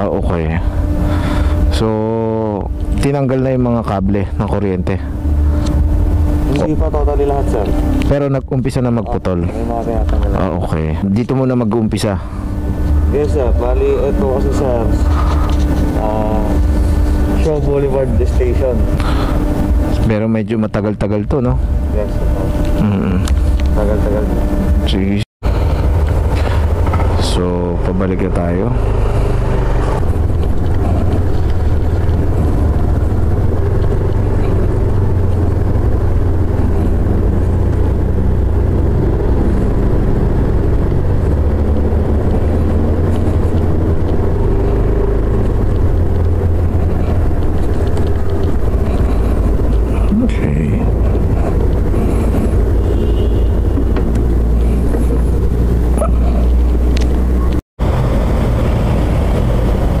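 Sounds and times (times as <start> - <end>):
motorcycle engine running: 0.0 - 20.2, 20.8 - 60.0.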